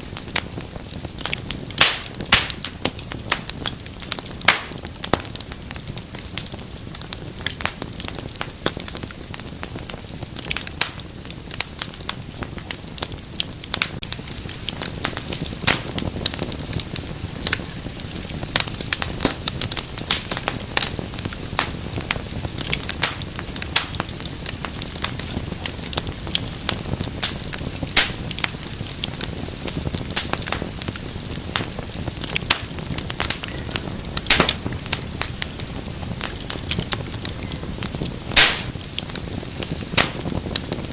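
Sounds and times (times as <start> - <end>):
rush of flames: 0.0 - 40.9
wood fire popping and snapping: 0.0 - 40.9.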